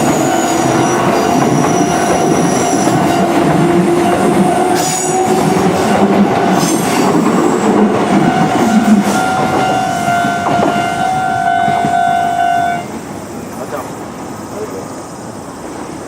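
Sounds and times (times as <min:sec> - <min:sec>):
steady high squeal: 0:00.0 - 0:13.6
train wheels rumbling and clattering: 0:00.0 - 0:16.0.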